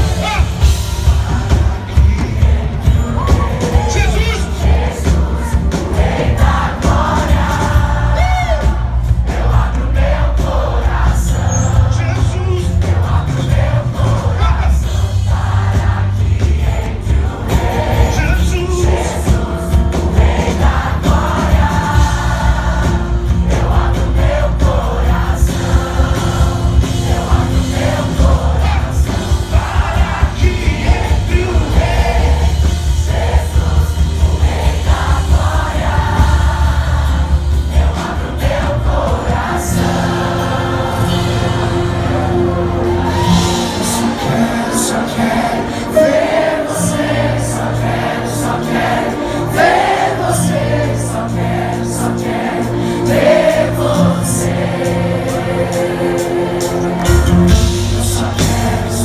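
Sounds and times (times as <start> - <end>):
vocal group singing a cappella: 0.0 - 59.0.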